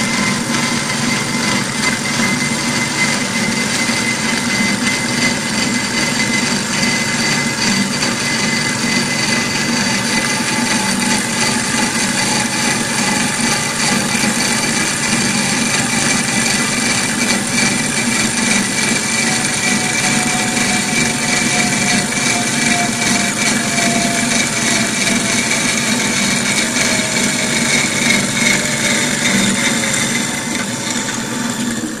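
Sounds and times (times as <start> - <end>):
band saw cutting metal whine: 0.0 - 32.0.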